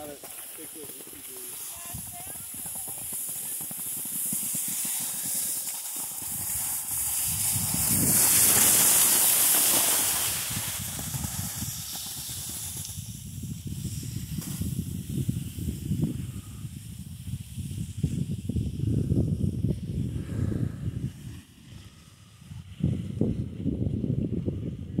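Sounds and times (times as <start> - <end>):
skis scraping over packed snow: 0.0 - 18.8, 19.7 - 22.2
wind on microphone: 1.6 - 3.8, 6.0 - 25.0.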